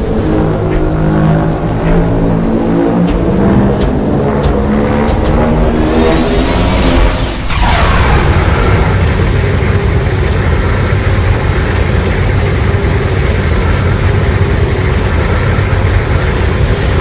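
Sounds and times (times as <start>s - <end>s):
deep sustained rumble: 0.0s - 17.0s
faint steady tones: 0.0s - 17.0s.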